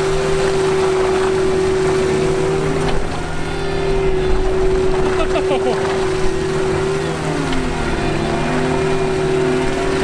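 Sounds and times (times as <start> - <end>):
diesel engine whining under load: 0.0 - 10.0.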